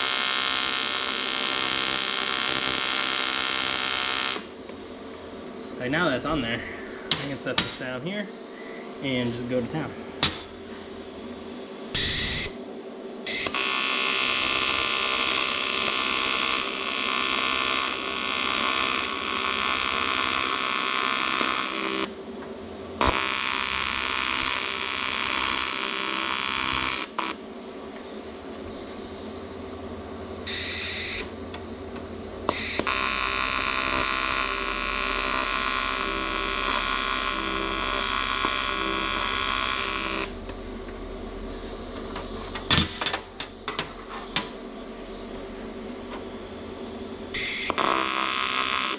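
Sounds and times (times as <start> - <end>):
welding arc buzzing: 0.0 - 4.6, 11.9 - 12.6, 13.2 - 27.5, 29.2 - 48.9.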